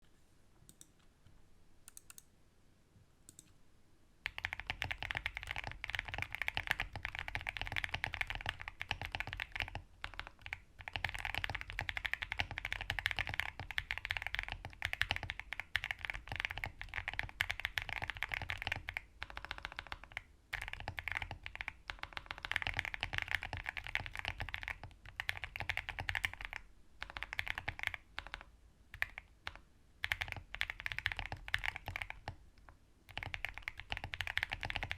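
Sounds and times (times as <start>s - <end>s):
fast typing on mechanical keyboard: 4.2s - 32.4s, 33.1s - 34.9s.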